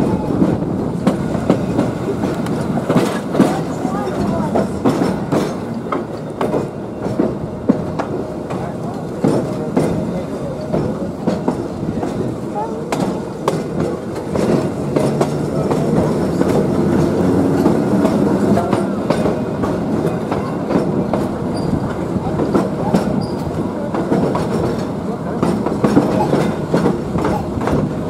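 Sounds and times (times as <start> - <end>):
train rumbling on track: 0.0 - 28.0
wheels clicking over rail joints: 0.2 - 28.0.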